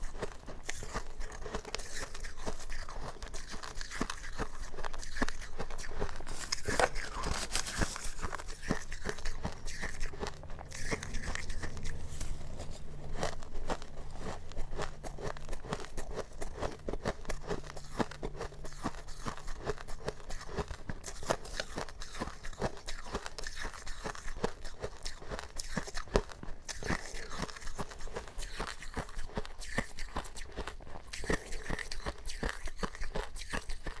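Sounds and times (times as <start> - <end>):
ice being chewed: 0.0 - 34.0.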